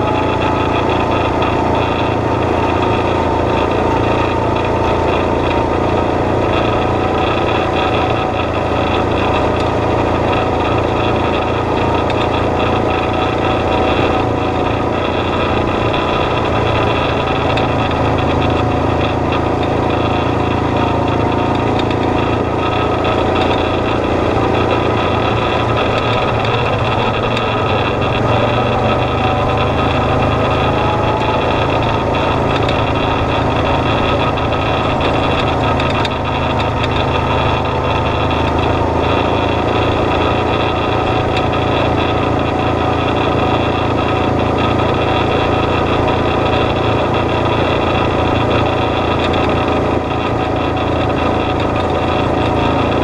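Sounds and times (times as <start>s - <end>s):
off-road vehicle engine running: 0.0s - 53.0s.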